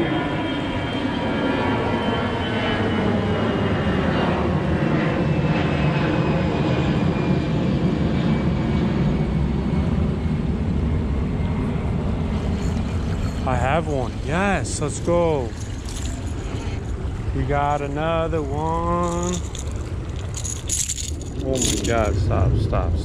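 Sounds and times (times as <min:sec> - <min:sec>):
faint high whine: 0:00.0 - 0:23.0.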